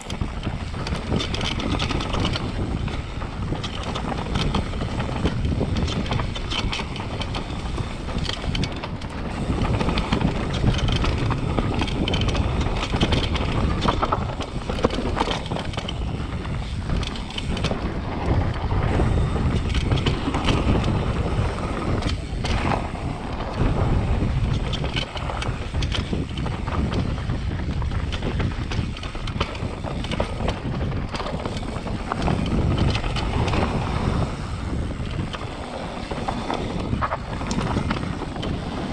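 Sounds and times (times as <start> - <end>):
bike rattling: 0.0 - 38.9
bike tyres rolling over ground: 0.0 - 38.9
wind rushing over microphone: 0.0 - 38.9.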